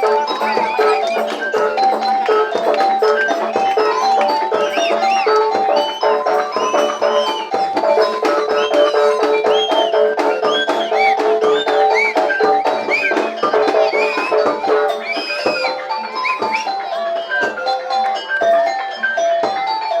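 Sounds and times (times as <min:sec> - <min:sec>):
drum beats: 0:00.0 - 0:20.0
gamelan music: 0:00.0 - 0:20.0.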